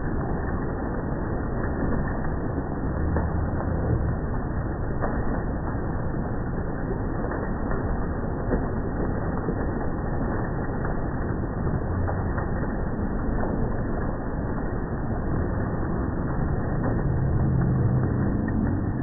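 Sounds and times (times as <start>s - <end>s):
low hum: 0.0s - 19.0s
slowed hail and rain: 0.0s - 19.0s.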